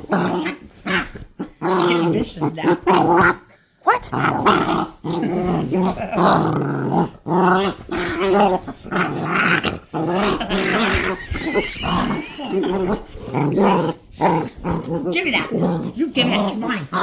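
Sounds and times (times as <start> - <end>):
puppy growling: 0.0 - 17.0.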